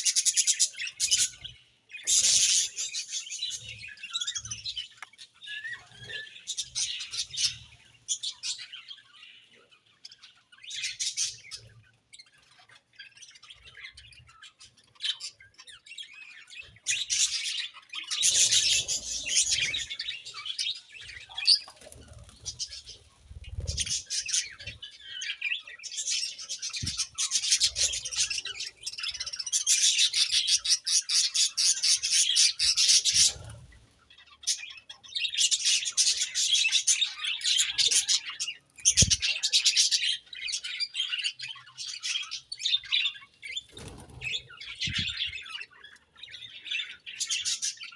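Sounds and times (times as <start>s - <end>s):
budgerigars chirping and warbling: 0.0s - 47.9s.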